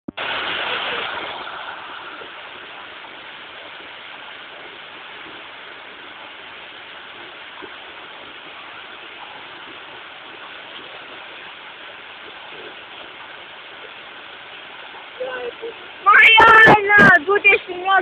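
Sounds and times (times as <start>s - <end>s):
water rushing: 0.1s - 18.0s.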